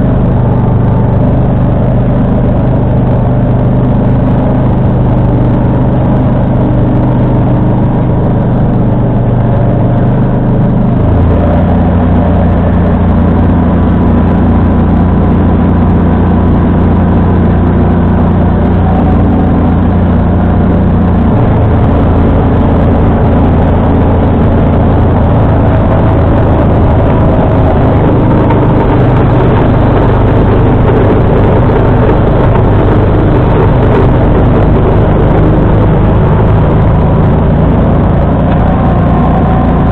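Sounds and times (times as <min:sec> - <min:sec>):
lawn tractor engine under load: 0:00.0 - 0:39.9.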